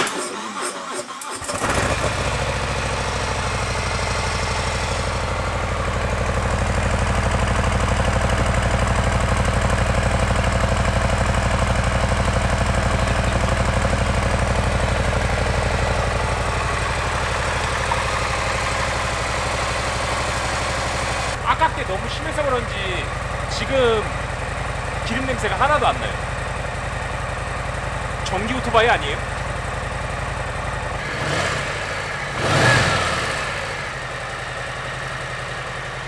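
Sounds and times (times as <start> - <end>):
motorcycle engine idling: 1.8 - 36.0.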